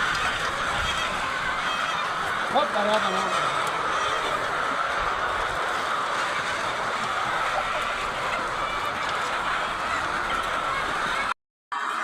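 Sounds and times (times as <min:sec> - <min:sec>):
hens clucking: 0:00.0 - 0:11.4.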